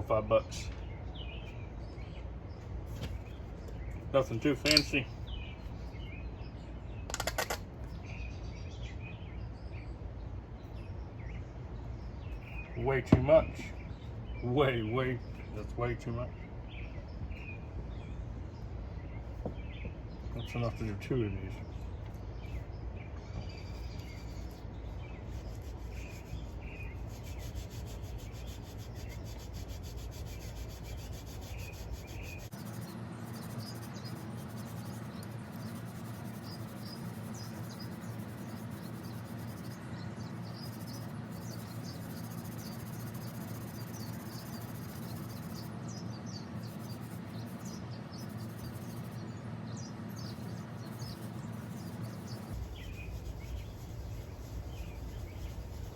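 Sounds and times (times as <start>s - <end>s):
birds chirping: 0.0s - 55.9s
low background hum: 0.0s - 55.9s.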